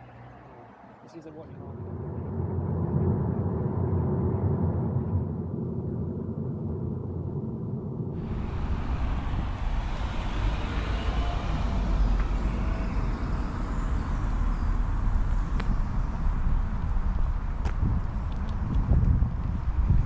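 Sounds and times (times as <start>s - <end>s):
low road vehicle rumble: 0.0s - 20.0s.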